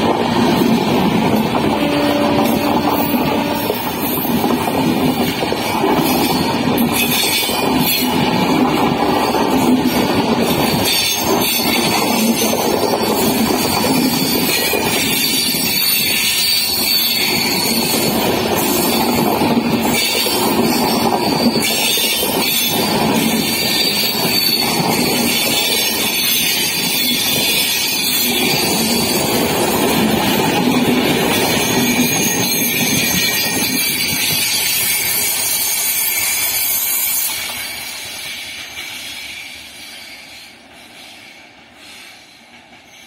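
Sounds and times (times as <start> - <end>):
train wheels rumbling and rattling: 0.0 - 43.0.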